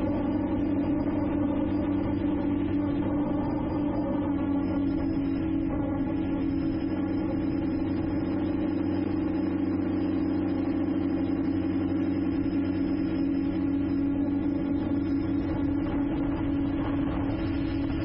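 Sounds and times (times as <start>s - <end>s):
drone propellers humming: 0.0s - 18.0s.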